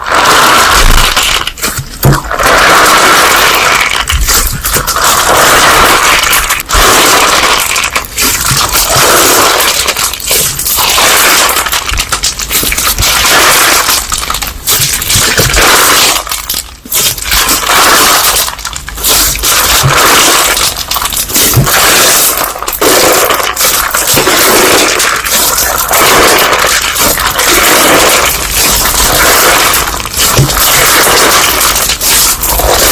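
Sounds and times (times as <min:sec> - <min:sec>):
slime squeezed by hand: 0:00.0 - 0:32.9.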